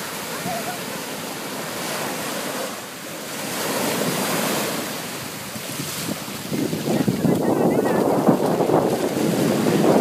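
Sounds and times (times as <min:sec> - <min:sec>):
ocean surf breaking on sand: 0:00.0 - 0:10.0.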